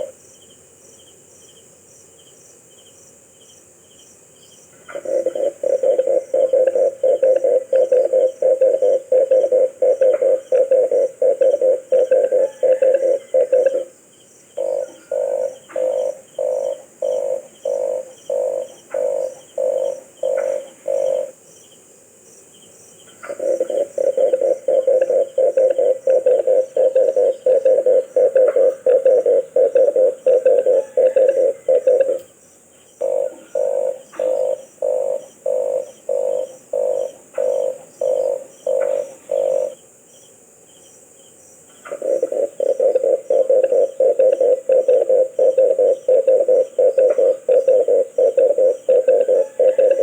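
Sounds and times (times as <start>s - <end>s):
faint insect hiss: 0.0s - 50.0s
dove cooing: 4.8s - 14.0s, 14.6s - 21.4s, 23.2s - 32.3s, 33.0s - 39.8s, 41.8s - 50.0s.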